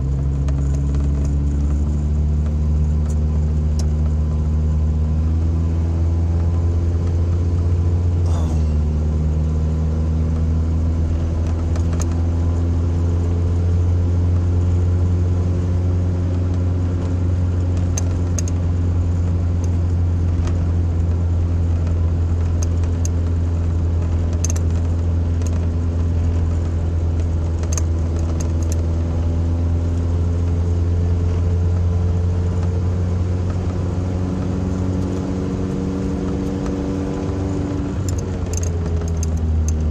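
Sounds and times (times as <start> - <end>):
pickup engine and exhaust running: 0.0 - 39.9.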